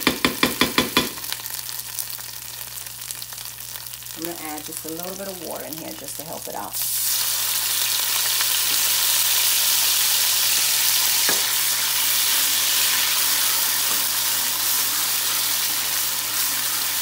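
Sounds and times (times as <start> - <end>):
hot oil sizzling loudly: 0.0 - 17.0.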